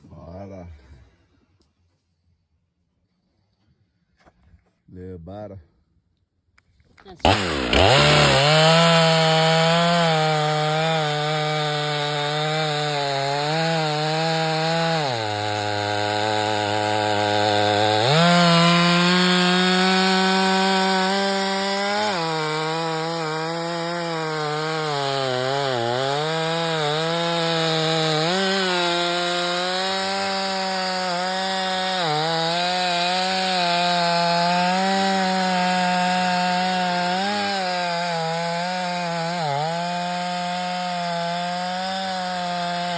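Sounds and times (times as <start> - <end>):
chainsaw cutting wood: 7.0 - 42.9.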